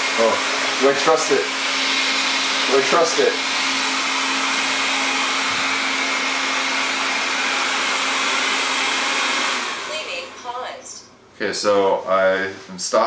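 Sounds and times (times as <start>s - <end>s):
robot vacuum whirring: 0.1s - 10.8s.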